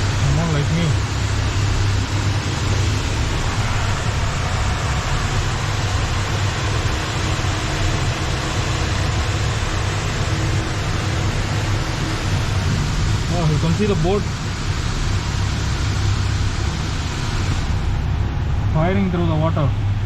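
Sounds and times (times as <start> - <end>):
wind rumble on chairlift: 0.0 - 19.1.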